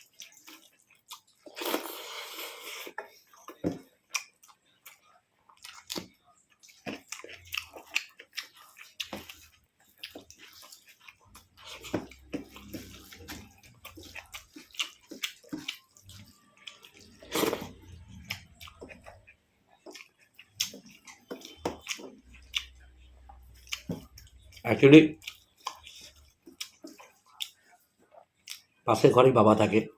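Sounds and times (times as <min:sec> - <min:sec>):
wet chewing and squelching: 0:00.0 - 0:28.9.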